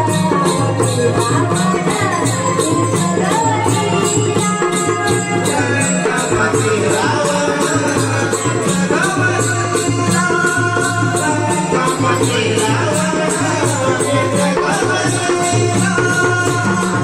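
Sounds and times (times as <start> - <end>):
drum beats: 0.0 - 17.0.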